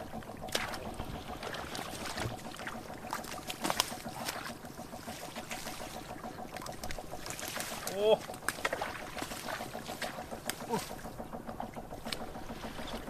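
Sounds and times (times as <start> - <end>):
fast pulsing buzz: 0.0 - 13.0
water splashing and sloshing: 0.0 - 13.0.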